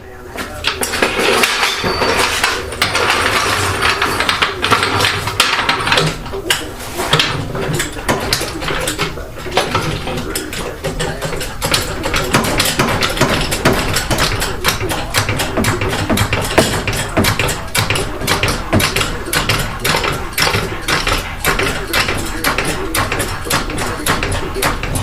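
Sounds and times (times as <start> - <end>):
metal tools clattering: 0.4 - 25.0.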